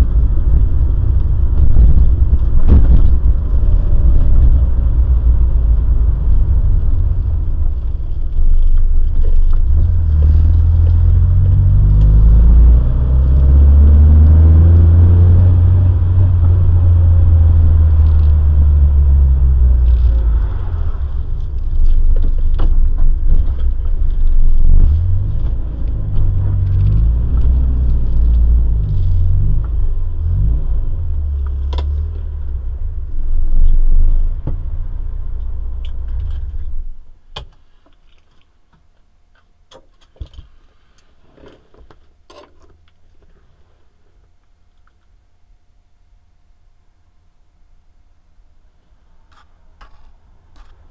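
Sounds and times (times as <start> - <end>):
car engine and road noise: 0.0 - 38.4, 48.5 - 50.9.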